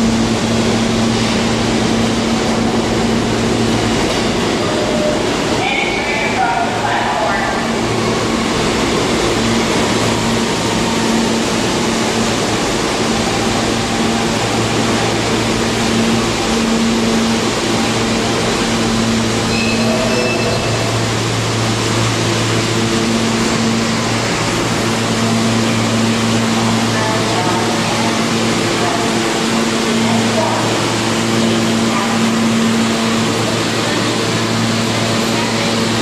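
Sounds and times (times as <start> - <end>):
subway cars humming: 0.0 - 36.0.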